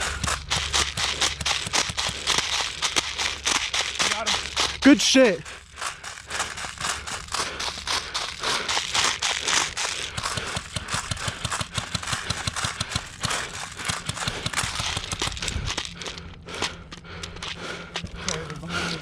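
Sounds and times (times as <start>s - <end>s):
footsteps: 0.0s - 19.0s
gear rattling and brushing: 0.0s - 19.0s.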